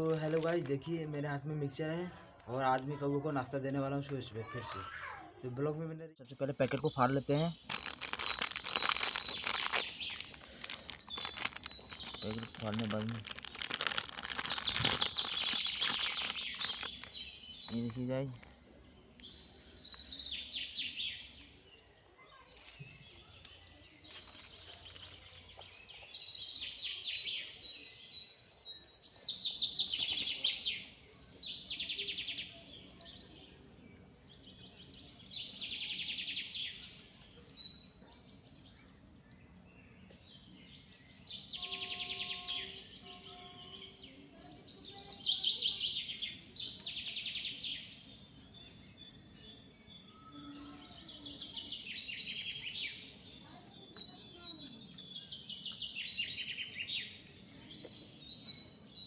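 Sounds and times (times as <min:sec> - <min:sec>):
birds calling in rattling bursts: 0:02.6 - 0:59.0.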